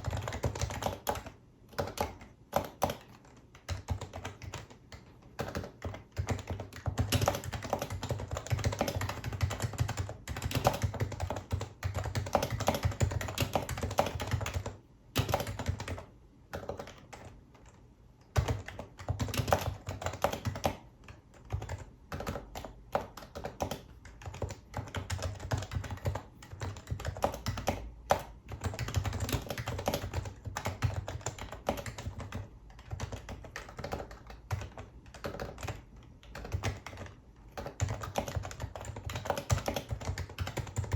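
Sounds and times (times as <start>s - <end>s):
soft muted keyboard typing: 0.0s - 40.9s.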